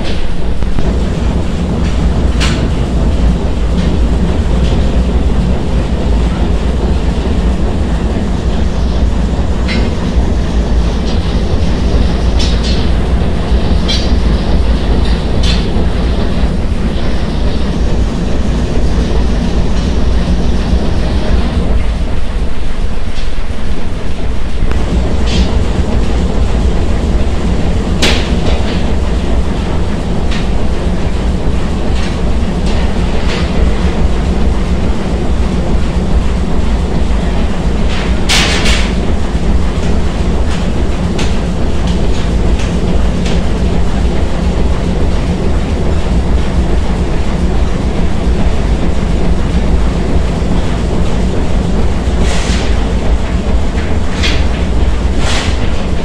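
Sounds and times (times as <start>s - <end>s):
steam engines rumbling: 0.0s - 56.0s.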